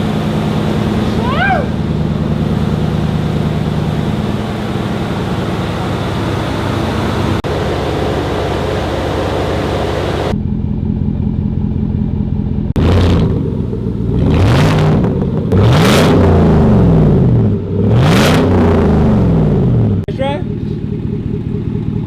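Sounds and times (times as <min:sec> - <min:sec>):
pickup engine idling and revving: 0:00.0 - 0:22.0.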